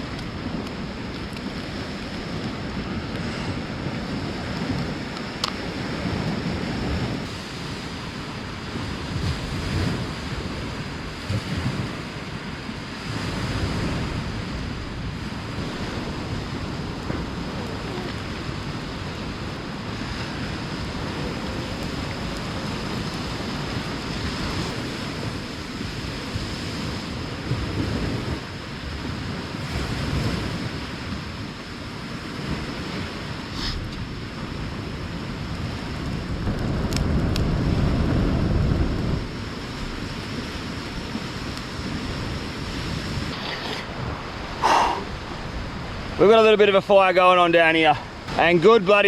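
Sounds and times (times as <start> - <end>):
rushing outdoor noise with rumbles: 0.0 - 49.0.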